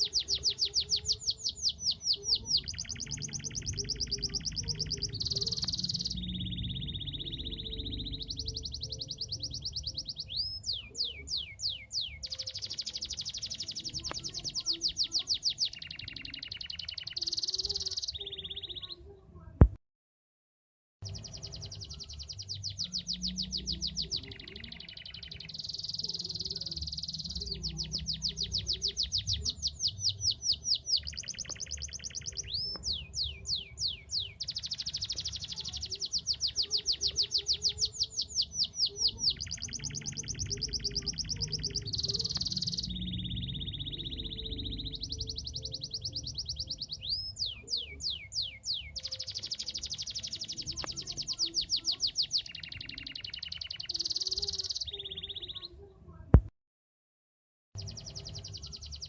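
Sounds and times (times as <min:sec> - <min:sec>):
canary singing trills: 0:00.0 - 0:19.2, 0:21.0 - 0:56.3, 0:57.8 - 0:59.0.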